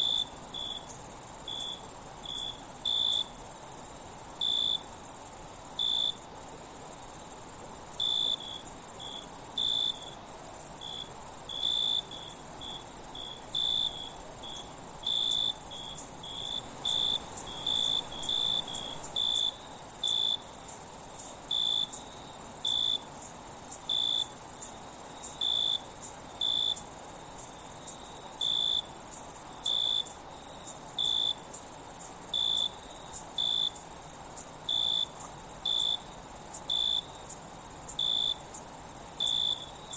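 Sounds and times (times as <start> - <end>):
high-pitched cricket trill: 0.0 - 39.9.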